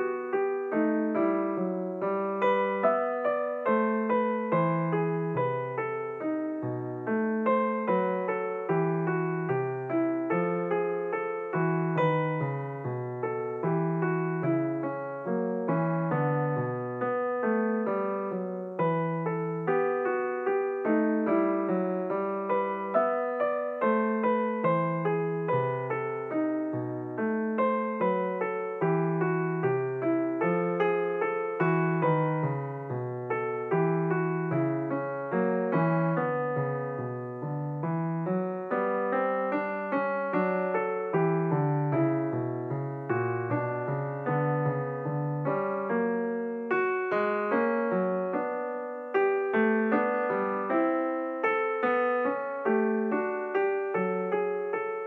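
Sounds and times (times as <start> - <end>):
piano minuet: 0.0 - 55.0.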